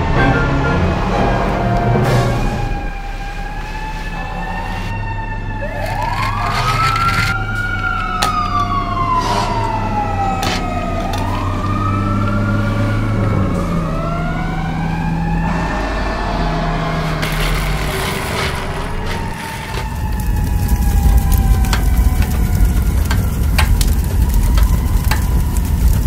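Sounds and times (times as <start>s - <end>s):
fire engine siren wailing: 0.0s - 26.0s.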